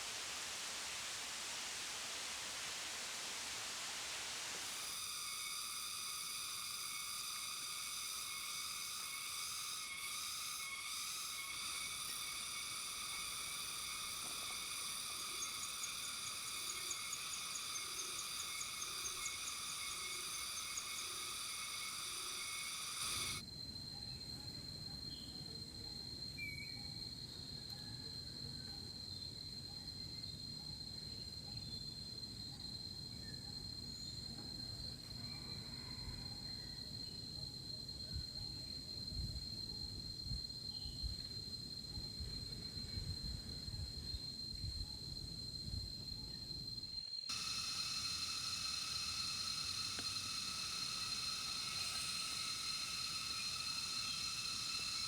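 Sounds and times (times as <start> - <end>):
insect chorus whining: 0.0 - 55.0.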